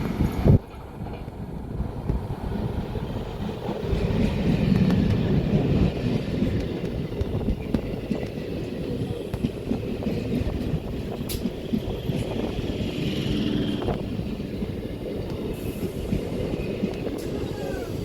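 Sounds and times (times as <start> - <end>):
train wheels rumbling and clacking: 0.0 - 18.0.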